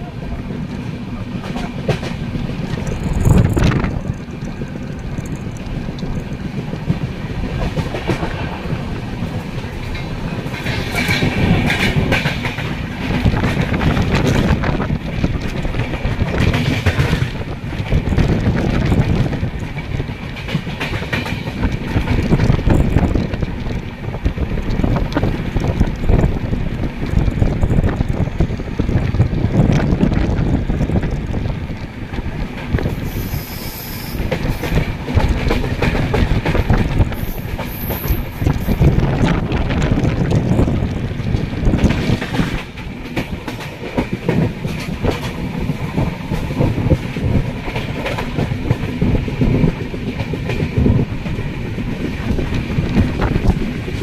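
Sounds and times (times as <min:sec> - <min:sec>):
train wheels clattering over rails: 0:00.0 - 0:54.0.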